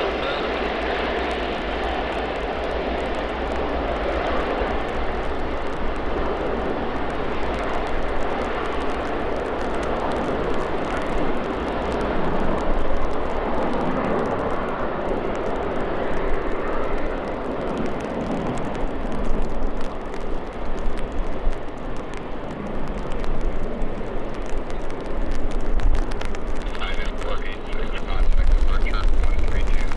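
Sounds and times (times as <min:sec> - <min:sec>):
jet engines at taxi power: 0:00.0 - 0:29.9.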